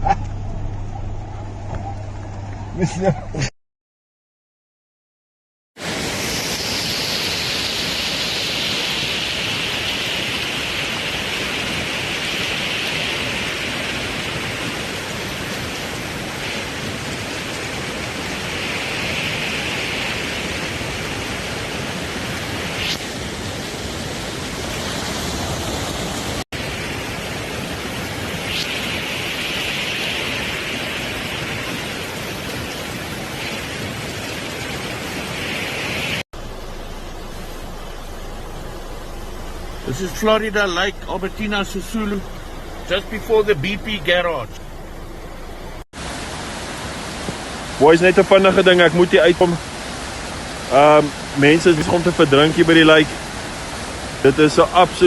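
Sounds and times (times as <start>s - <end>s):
heavy rain: 5.8s - 55.0s
rushing floodwater: 5.8s - 55.0s.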